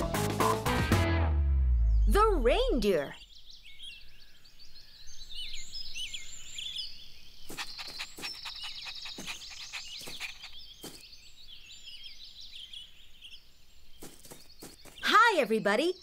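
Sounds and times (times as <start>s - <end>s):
birds chirping: 1.8s - 16.0s.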